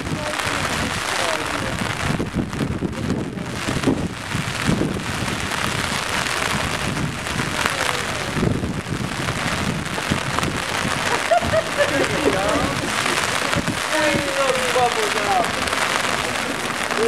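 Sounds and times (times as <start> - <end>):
rain on a rooftop: 0.0 - 17.0.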